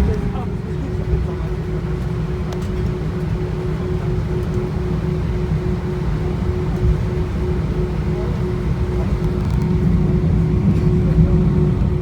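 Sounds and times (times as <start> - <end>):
aircraft cabin engine rumble: 0.0 - 12.0
faint pulsing hum: 0.0 - 12.0.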